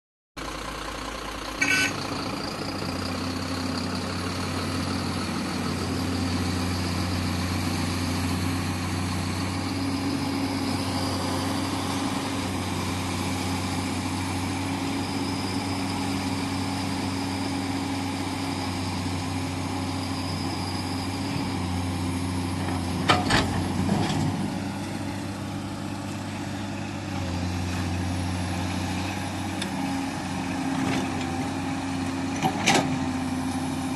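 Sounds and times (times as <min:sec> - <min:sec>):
diesel truck engine running: 0:00.4 - 0:33.9.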